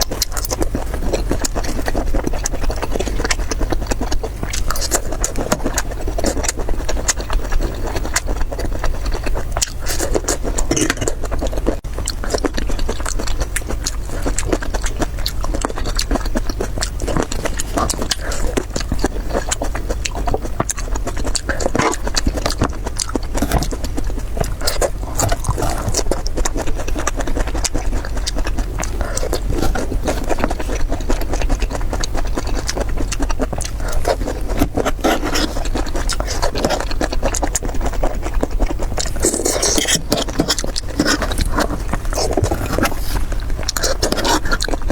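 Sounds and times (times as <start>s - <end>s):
crackly chewing: 0.0s - 44.9s.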